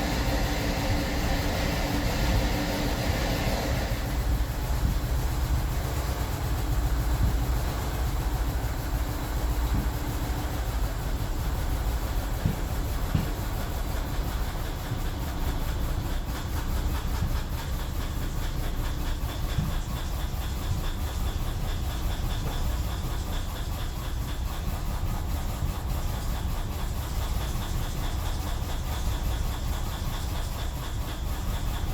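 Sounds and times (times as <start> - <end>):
car engine idling unevenly: 0.0 - 31.9.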